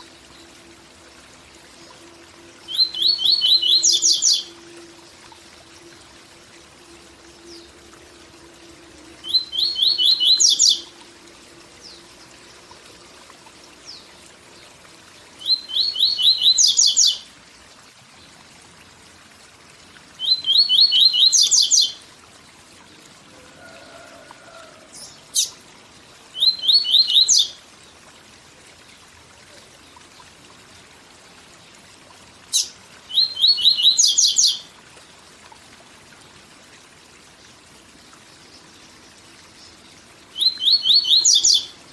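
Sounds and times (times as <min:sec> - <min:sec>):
faint waterfall rush: 0:00.0 - 0:41.9.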